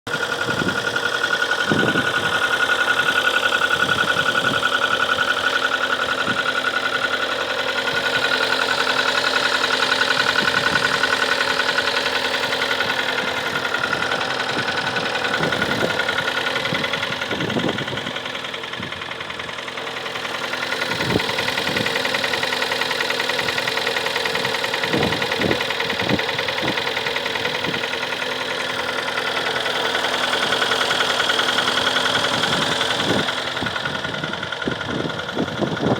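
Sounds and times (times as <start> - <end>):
car engine idling with knock: 0.1 - 35.9.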